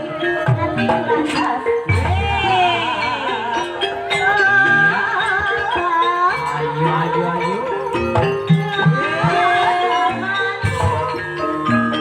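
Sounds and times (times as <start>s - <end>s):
gamelan music: 0.0s - 12.0s
struck metallophone notes: 0.0s - 12.0s
wavering vibrato melody: 0.0s - 12.0s.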